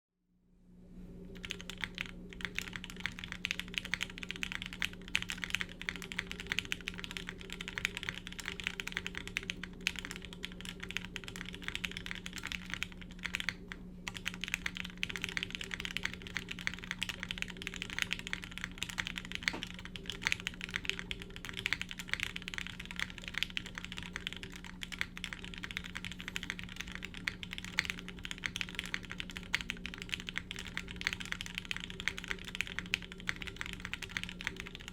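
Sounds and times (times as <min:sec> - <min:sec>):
steady low hum: 0:00.4 - 0:34.9
fast typing on mechanical keyboard: 0:01.3 - 0:34.9.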